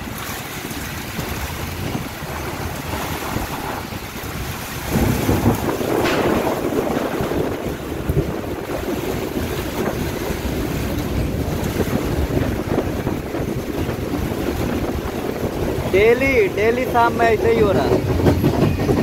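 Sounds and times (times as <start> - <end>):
rain falling: 0.0 - 18.2
storm wind buffeting microphone: 0.0 - 19.0.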